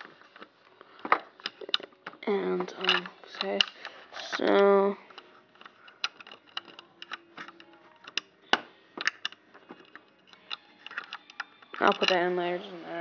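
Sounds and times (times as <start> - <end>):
plastic pieces clicking: 0.2 - 4.4, 5.1 - 12.3.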